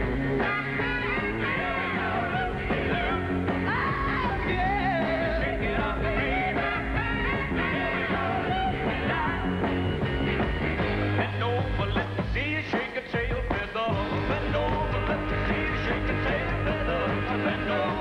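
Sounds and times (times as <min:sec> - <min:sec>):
drums: 0:00.0 - 0:18.0
electric guitars: 0:00.0 - 0:18.0
men singing: 0:01.1 - 0:09.5, 0:11.2 - 0:18.0.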